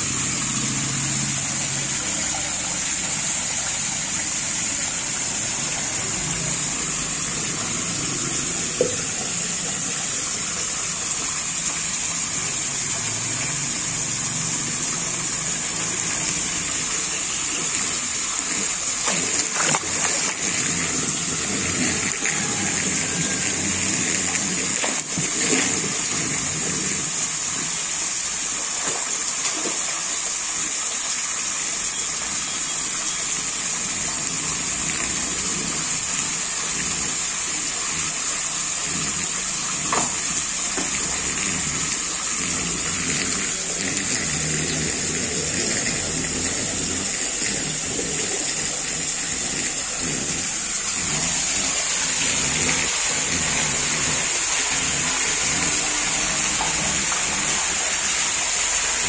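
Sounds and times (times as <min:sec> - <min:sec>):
water rushing in fish tank: 0:00.0 - 0:59.0.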